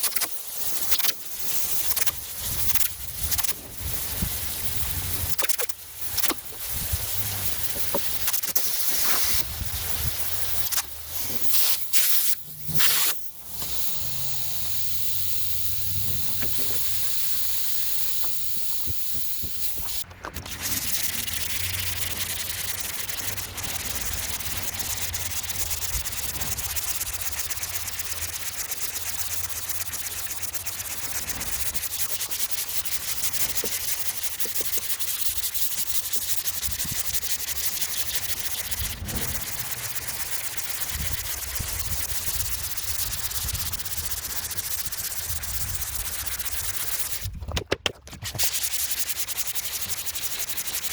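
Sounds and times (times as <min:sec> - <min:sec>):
sandpaper rubbing: 0:00.0 - 0:50.9.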